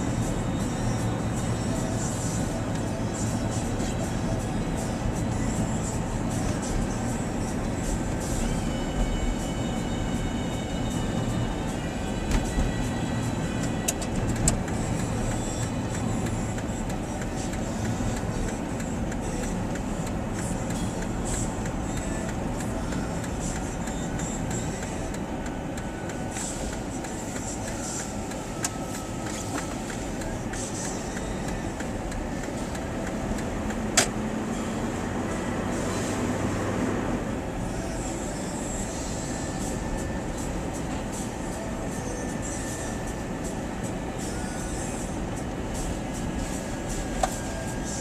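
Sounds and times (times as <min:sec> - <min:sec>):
running vehicle rumbling: 0:00.0 - 0:48.0.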